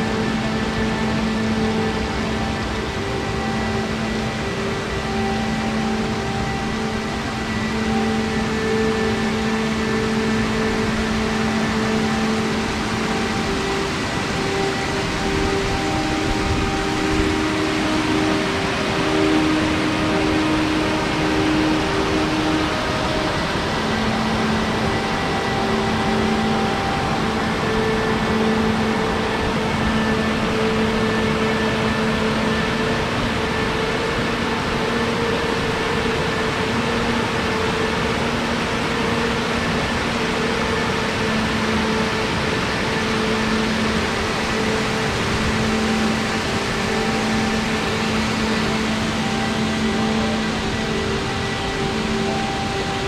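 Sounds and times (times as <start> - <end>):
faint humming tones: 0.0 - 53.0
water rushing over rocks: 0.0 - 53.0.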